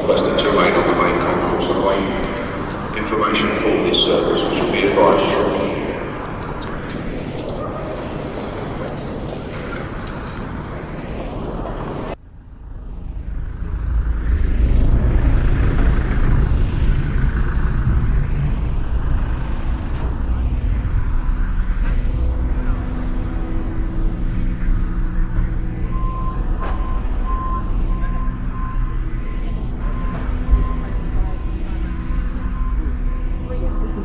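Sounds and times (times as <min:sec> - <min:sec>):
even rushing noise: 0:00.0 - 0:34.0
jet engines rumbling: 0:00.0 - 0:34.0.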